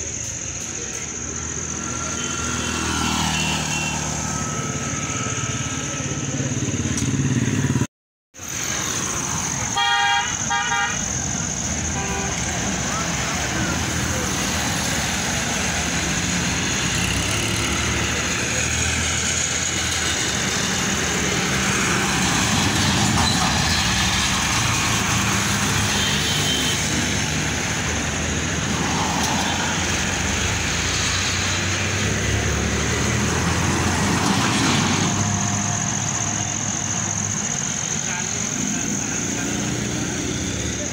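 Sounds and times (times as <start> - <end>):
heavy road traffic passing: 0.0 - 40.9.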